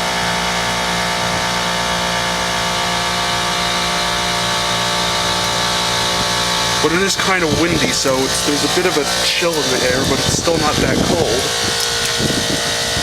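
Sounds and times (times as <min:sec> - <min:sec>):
compressor humming: 0:00.0 - 0:13.0.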